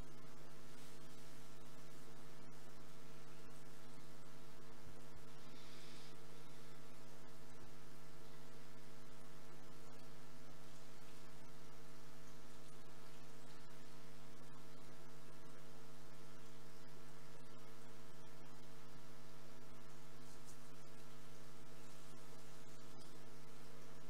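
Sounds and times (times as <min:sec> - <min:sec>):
electrical mains hum: 0:00.0 - 0:24.0
faint hiss: 0:00.0 - 0:24.0.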